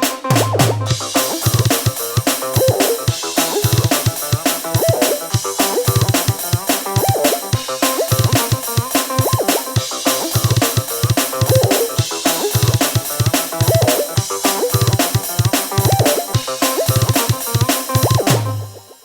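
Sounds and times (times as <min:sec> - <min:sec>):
melodic backing song: 0:00.0 - 0:18.8
drum kit beat: 0:00.0 - 0:19.0.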